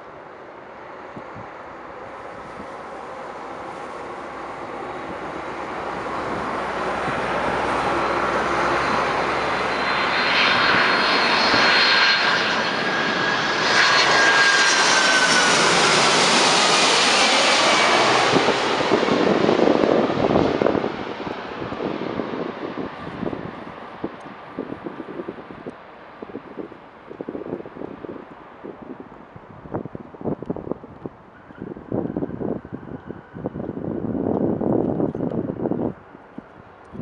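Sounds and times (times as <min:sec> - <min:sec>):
jet whistling whine: 0:00.0 - 0:29.0, 0:30.6 - 0:34.7
jet engine rush: 0:00.0 - 0:37.0.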